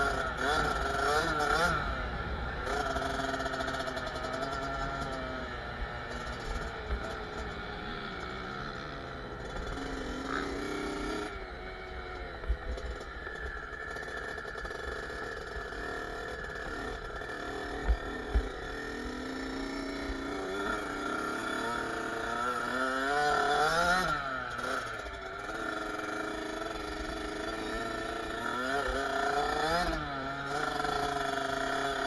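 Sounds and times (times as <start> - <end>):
two-stroke engine revving: 0.0 - 32.0.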